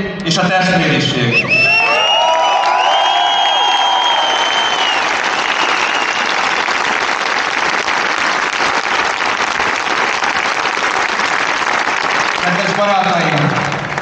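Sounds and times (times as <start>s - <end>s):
crowd applauding: 1.3s - 14.0s.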